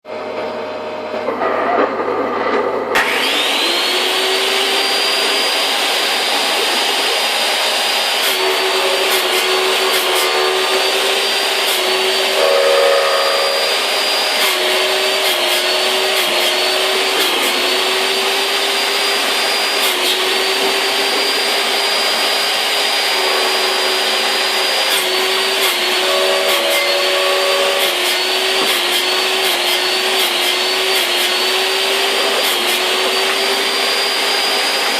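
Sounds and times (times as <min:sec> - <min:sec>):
wood-cutting machine motor whine: 0:02.9 - 0:34.9.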